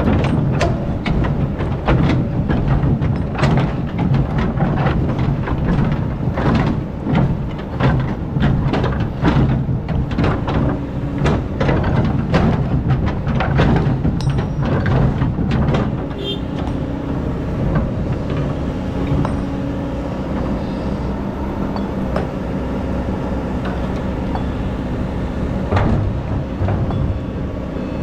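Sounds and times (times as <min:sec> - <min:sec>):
excavator diesel engine running: 0:00.0 - 0:28.0
sharp knocks and clanks: 0:00.0 - 0:28.0.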